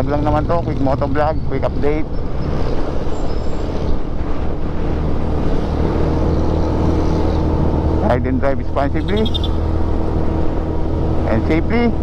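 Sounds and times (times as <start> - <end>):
low engine hum: 0.0 - 12.0
road and air rushing noise: 2.2 - 12.0.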